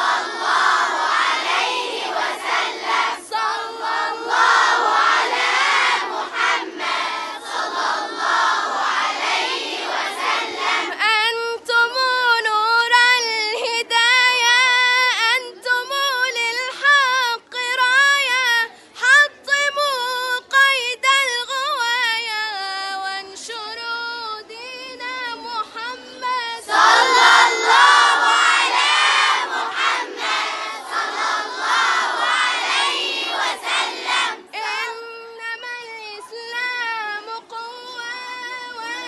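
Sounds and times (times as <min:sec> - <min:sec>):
child reciting melodically: 0:00.0 - 0:39.0
crowd of voices: 0:00.0 - 0:39.0.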